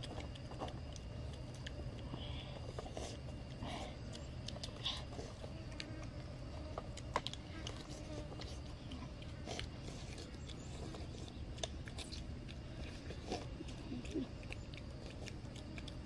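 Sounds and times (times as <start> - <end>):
chewing and smacking: 0.0 - 16.0
low background noise: 0.0 - 16.0.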